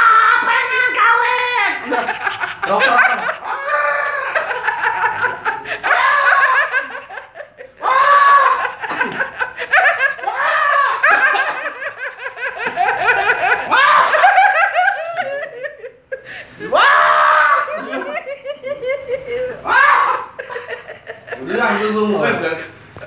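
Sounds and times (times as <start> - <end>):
hearty laughter: 1.8 - 16.5, 17.2 - 23.0.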